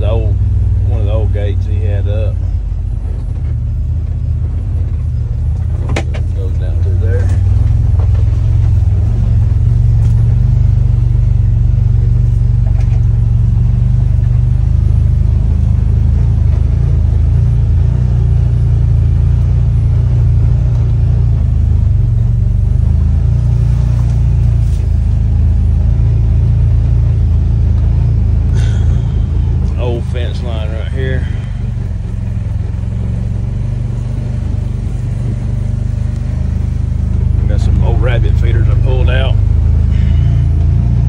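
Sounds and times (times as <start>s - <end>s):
vehicle engine drone from inside cab: 0.0s - 41.0s.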